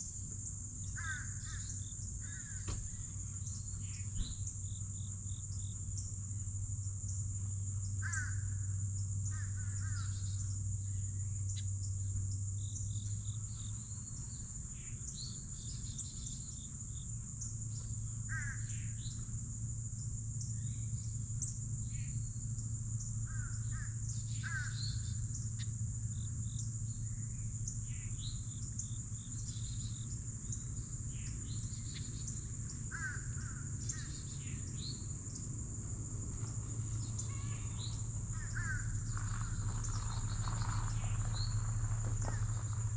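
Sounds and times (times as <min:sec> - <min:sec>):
high-pitched insect drone: 0:00.0 - 0:42.9
low steady hum: 0:00.0 - 0:42.9
wild birds calling: 0:00.8 - 0:06.1, 0:07.2 - 0:12.0, 0:17.4 - 0:19.4, 0:20.3 - 0:42.9.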